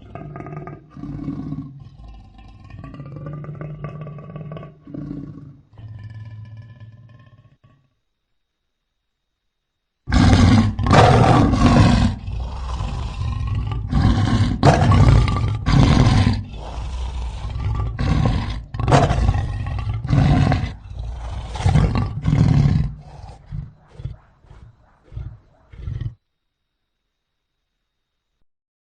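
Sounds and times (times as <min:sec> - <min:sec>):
big cat roaring: 0:00.0 - 0:07.9, 0:10.1 - 0:26.2.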